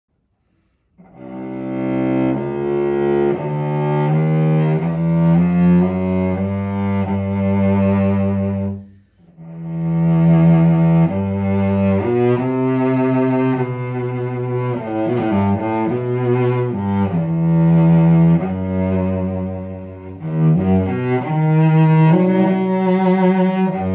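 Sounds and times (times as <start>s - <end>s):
bowed cello low notes: 0.9s - 23.9s.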